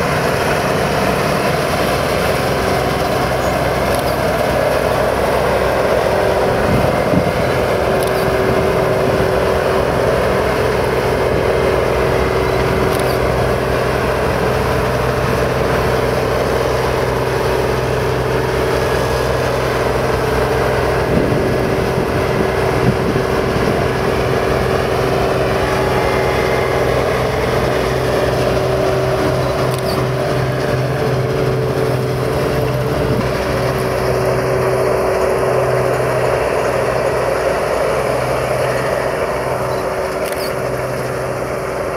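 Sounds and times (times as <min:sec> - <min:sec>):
combine harvester droning: 0:00.0 - 0:41.9.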